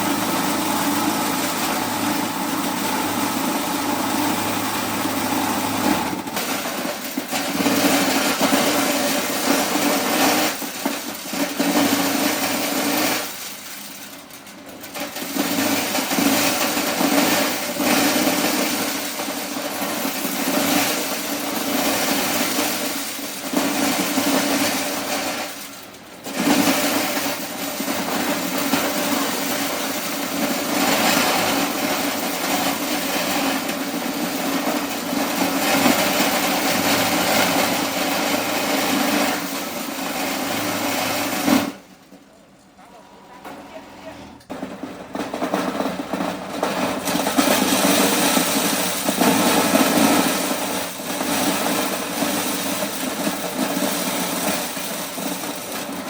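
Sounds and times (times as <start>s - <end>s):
corn sheller humming and rattling: 0.0s - 56.0s.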